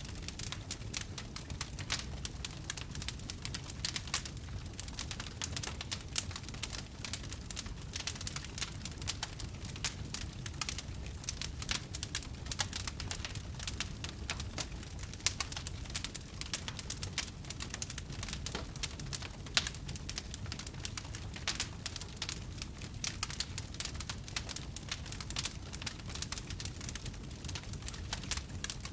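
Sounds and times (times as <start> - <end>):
campfire crackling and popping: 0.0 - 28.9
fire low rumble: 0.0 - 28.9.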